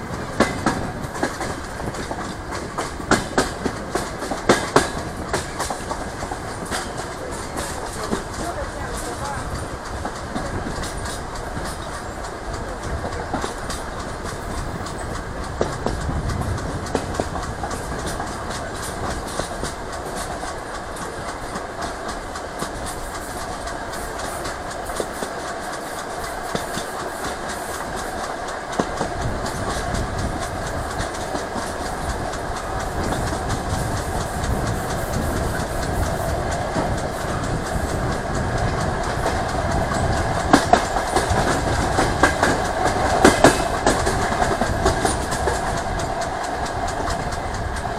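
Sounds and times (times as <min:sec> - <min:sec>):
train running noise: 0:00.0 - 0:47.9
wheels clicking over rail joints: 0:00.0 - 0:47.9.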